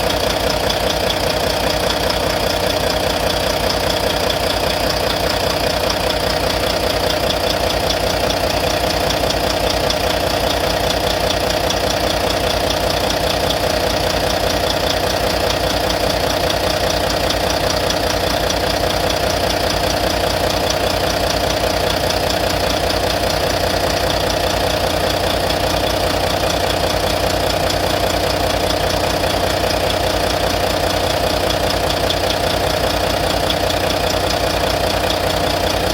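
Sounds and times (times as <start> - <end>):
diesel engine idling: 0.0 - 35.9
rapid tapping from engine: 0.0 - 35.9.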